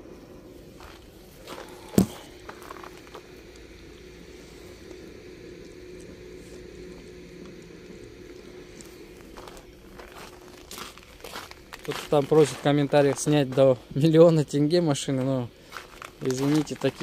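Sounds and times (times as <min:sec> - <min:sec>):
faint constant hum: 0:00.0 - 0:17.0.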